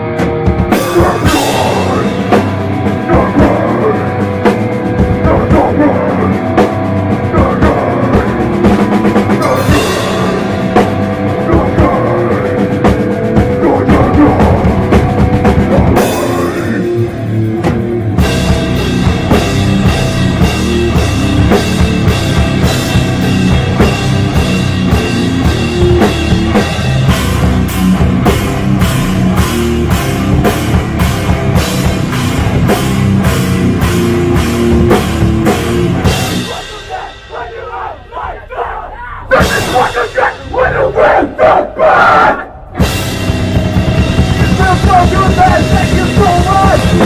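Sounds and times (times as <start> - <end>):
hardcore band playing live: 0.0 - 47.0.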